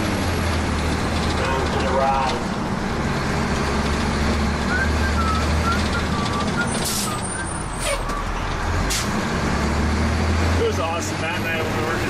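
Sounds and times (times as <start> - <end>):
fire engine running: 0.0 - 12.0
road rumble: 0.0 - 12.0.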